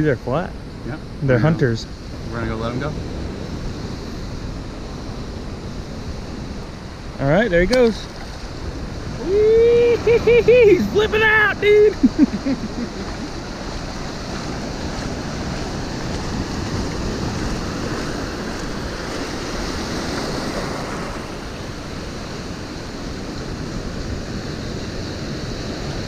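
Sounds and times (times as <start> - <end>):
surf washing over sand: 0.0 - 26.0.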